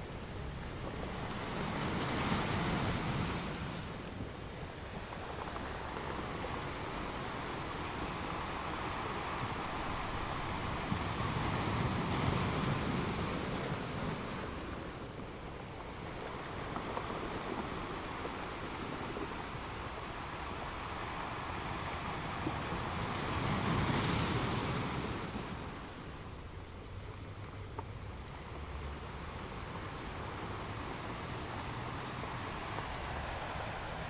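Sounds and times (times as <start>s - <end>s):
surf washing onto beach: 0.0s - 34.0s
wind on microphone: 0.0s - 34.0s.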